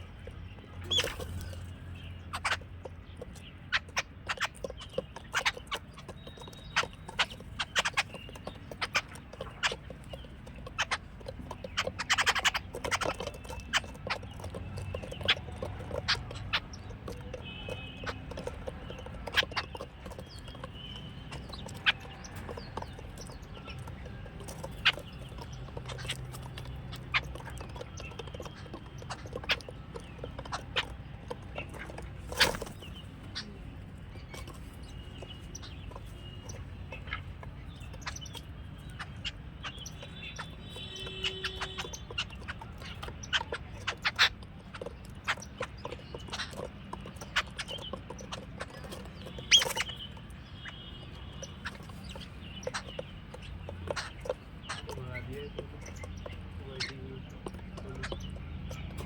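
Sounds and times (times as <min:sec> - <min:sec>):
babblers calling: 0:00.8 - 0:59.0.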